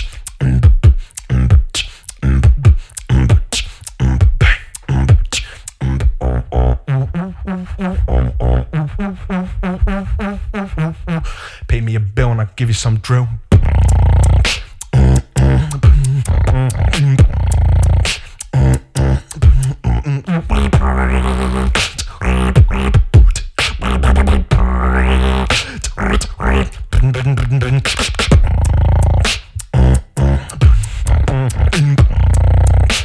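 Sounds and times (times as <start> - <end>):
person beatboxing: 0.0 - 33.0.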